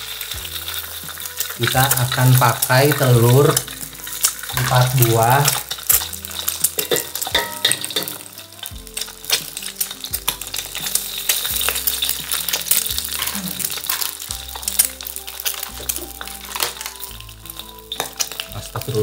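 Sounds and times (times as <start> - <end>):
eggs cracking: 0.0 - 19.0
hot oil crackling and sizzling: 0.0 - 19.0.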